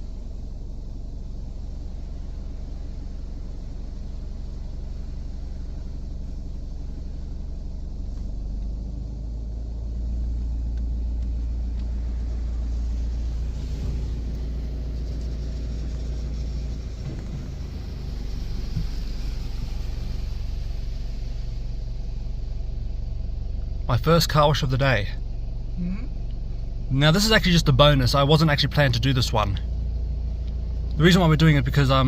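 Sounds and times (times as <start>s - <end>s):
car wash hiss: 0.0s - 32.0s
car wash low rumble: 0.0s - 32.0s.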